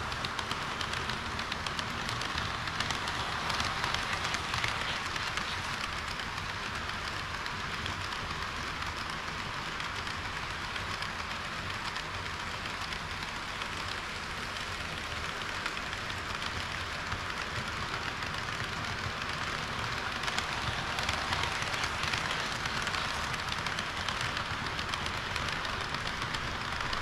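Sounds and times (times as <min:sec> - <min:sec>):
model train wheels rolling: 0:00.0 - 0:27.0.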